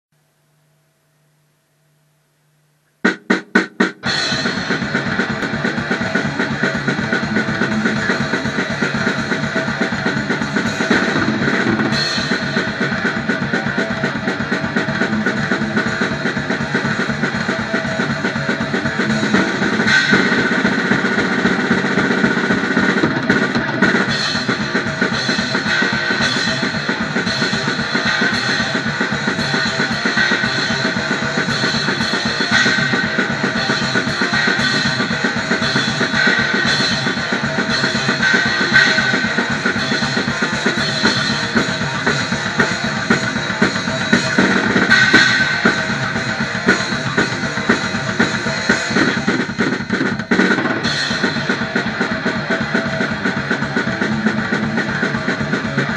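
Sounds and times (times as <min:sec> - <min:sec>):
cymbals: 0:03.0 - 0:55.9
fast bass drum: 0:03.0 - 0:55.9
thrash metal band playing: 0:03.0 - 0:55.9.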